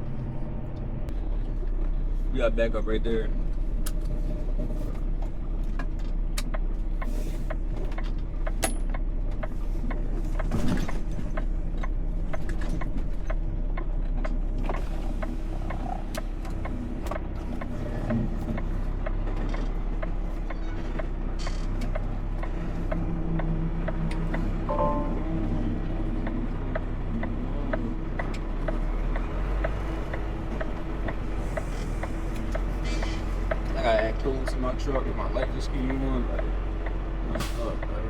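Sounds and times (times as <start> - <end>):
truck engine low hum: 0.0 - 38.0.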